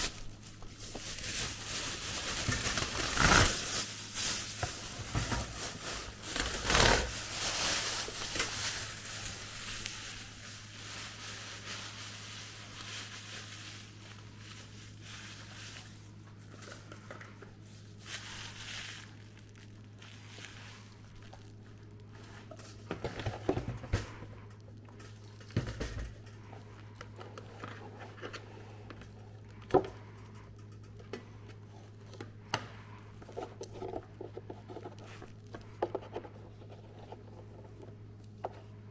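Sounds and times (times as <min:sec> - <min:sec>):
packaging crinkling and rustling: 0:00.0 - 0:38.4.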